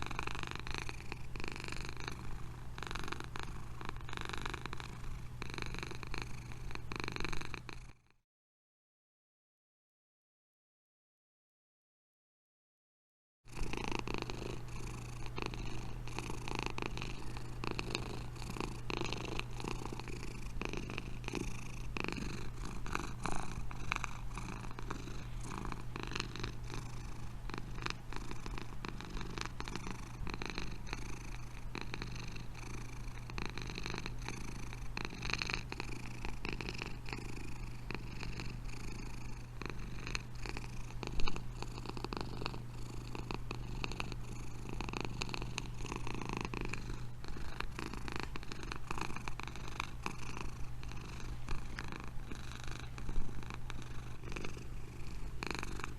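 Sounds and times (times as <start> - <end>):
cat purring: 0.0 - 8.1, 13.5 - 55.9.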